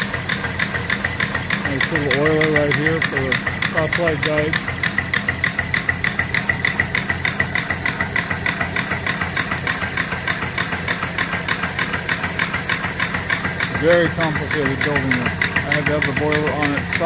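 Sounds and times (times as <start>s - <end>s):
steam engine chuffing and clattering: 0.0s - 17.0s.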